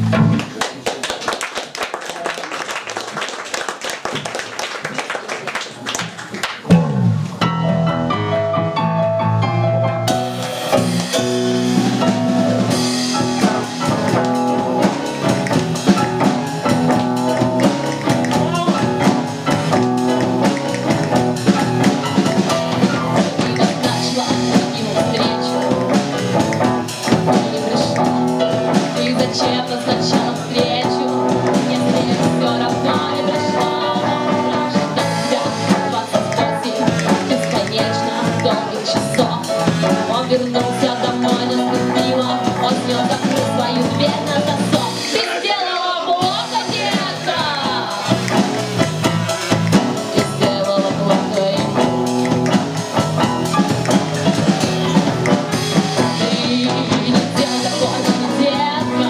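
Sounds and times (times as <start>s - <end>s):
electric bass: 0.0s - 0.6s, 6.6s - 45.2s, 46.2s - 59.0s
electric guitar: 0.0s - 0.9s, 6.6s - 45.6s, 46.2s - 59.0s
drums: 0.0s - 59.0s
keyboard: 6.7s - 59.0s.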